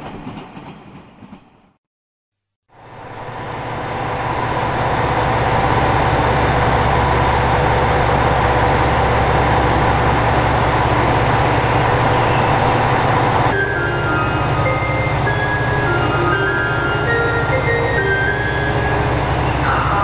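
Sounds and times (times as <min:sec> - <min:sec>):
diesel railcar idling: 0:02.7 - 0:20.0.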